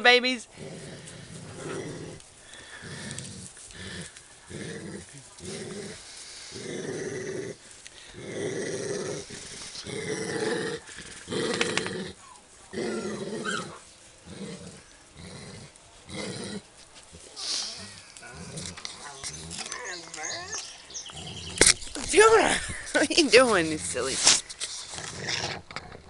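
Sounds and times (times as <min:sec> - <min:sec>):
dogs growling: 0:00.5 - 0:26.0.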